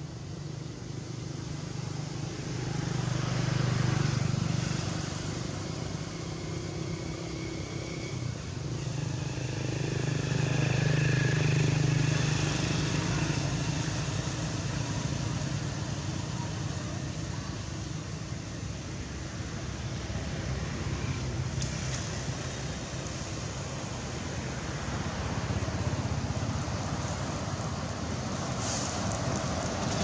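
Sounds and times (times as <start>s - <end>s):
vehicle engine humming: 0.0s - 30.0s.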